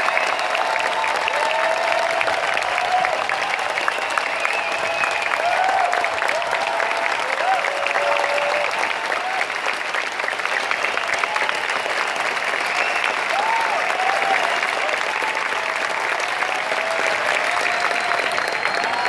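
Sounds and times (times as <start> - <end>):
cheering calls: 0.0 - 19.0
crowd applauding: 0.0 - 19.0.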